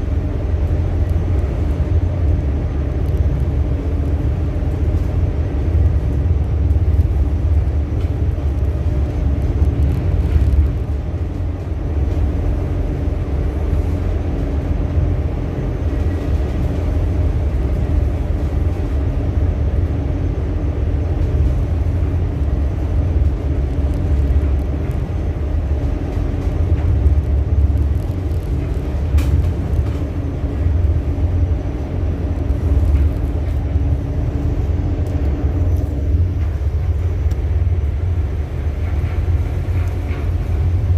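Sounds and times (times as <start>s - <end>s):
ship engine rumbling: 0.0s - 40.9s.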